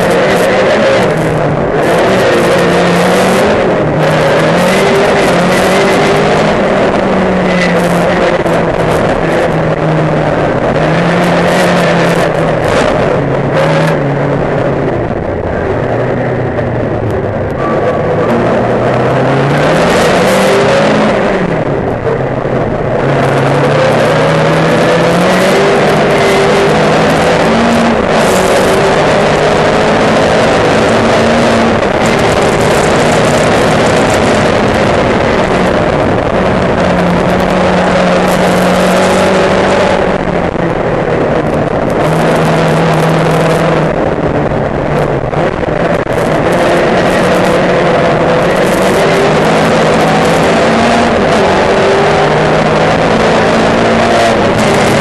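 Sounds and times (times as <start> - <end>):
race car engine revving through gears: 0.0 - 55.0.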